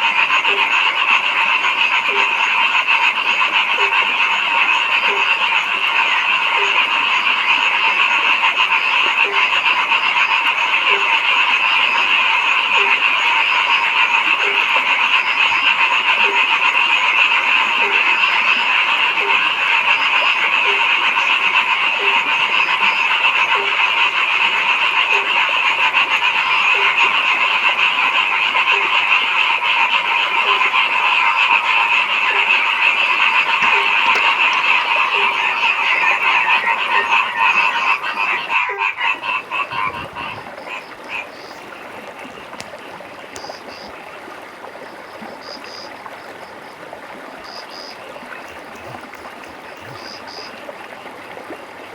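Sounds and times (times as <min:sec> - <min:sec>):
chorus of frogs calling: 0:00.0 - 0:51.9
low-pitched frog croaking: 0:00.0 - 0:51.9.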